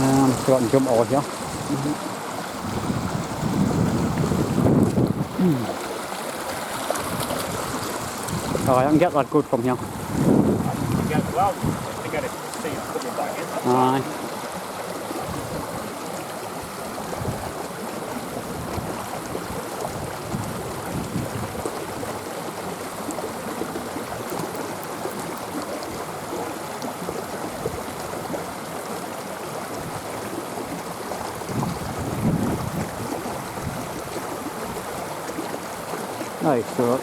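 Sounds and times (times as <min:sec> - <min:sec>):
stream running over rocks: 0:00.0 - 0:37.0.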